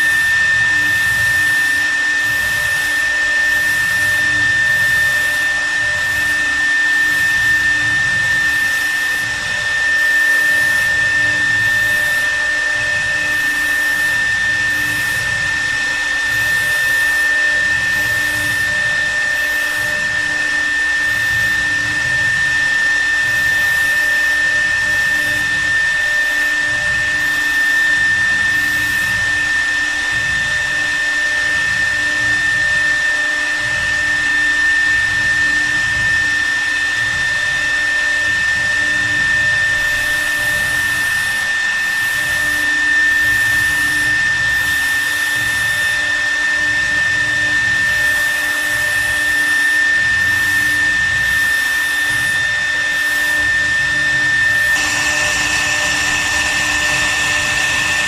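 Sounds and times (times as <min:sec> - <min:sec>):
router spindle whining: 0:00.0 - 0:35.7, 0:43.8 - 0:58.0
router carving wood: 0:00.0 - 0:58.0.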